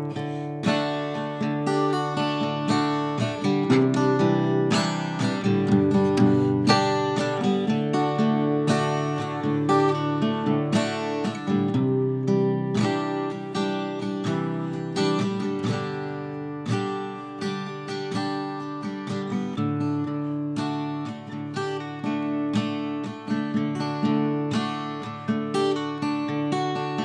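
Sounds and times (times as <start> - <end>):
acoustic guitar: 0.0 - 27.0.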